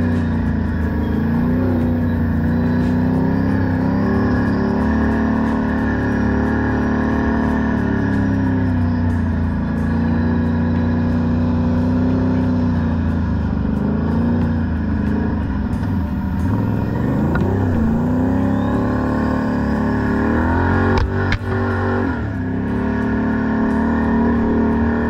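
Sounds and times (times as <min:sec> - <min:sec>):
quad engine running: 0:00.0 - 0:25.0.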